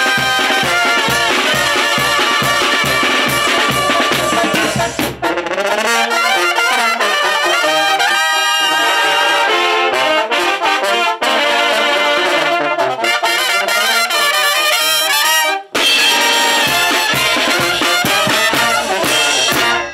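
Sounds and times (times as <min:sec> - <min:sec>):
brass band playing: 0:00.0 - 0:19.9.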